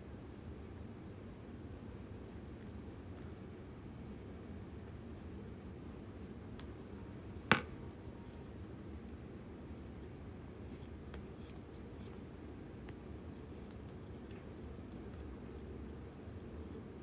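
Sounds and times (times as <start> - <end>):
light ticks and rustles: 0.4 - 7.0, 7.9 - 17.0.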